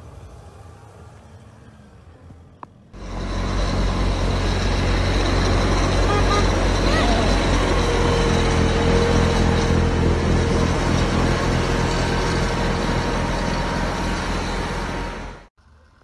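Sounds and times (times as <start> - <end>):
tractor snowblower running: 2.9 - 15.8.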